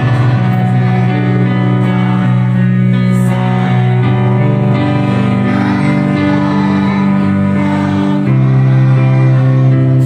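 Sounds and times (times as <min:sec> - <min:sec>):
slow music with held chords: 0:00.0 - 0:10.0.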